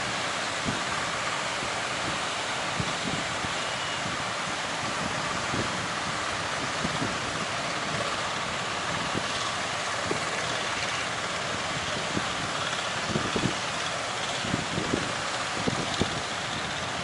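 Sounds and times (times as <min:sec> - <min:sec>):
wind buffeting microphone: 0:01.9 - 0:17.0.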